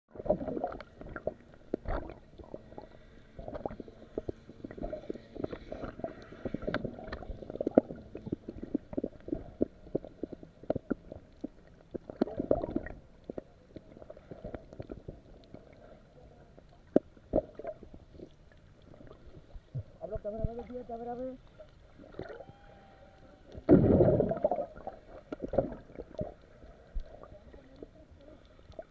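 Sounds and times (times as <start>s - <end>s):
underwater gurgling and sloshing: 0.1s - 28.9s.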